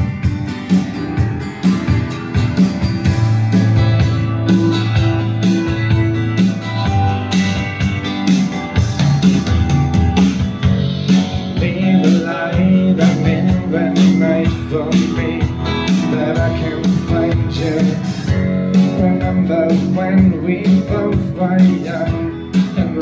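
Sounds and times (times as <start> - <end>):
live band playing ballad: 0.0 - 23.0
low bass notes: 0.0 - 23.0
steady drumbeat: 0.0 - 23.0.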